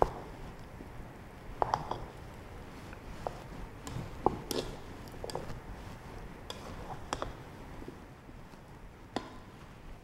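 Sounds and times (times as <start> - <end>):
rice squishing: 0.0 - 10.0.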